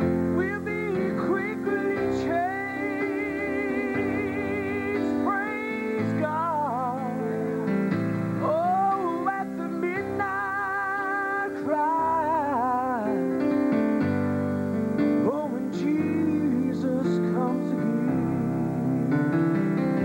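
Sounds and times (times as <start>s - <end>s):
man singing gospel with vibrato: 0.0s - 13.9s, 15.1s - 19.2s
electronic keyboard chords: 0.0s - 20.0s.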